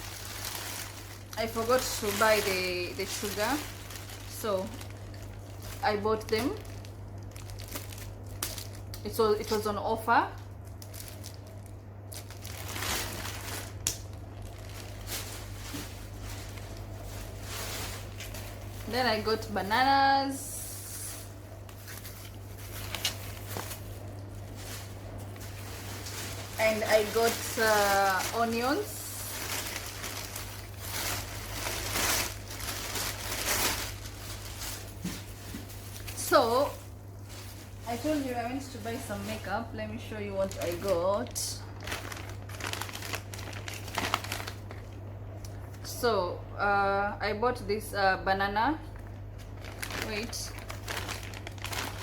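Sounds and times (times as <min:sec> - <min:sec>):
packaging crinkling: 0:00.0 - 0:45.8, 0:48.9 - 0:52.0
low electrical hum: 0:00.0 - 0:52.0.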